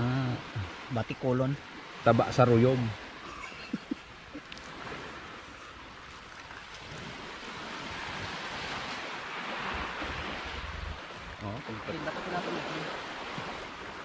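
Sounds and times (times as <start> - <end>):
surf washing on shore: 0.0 - 14.0
wind: 0.0 - 14.0.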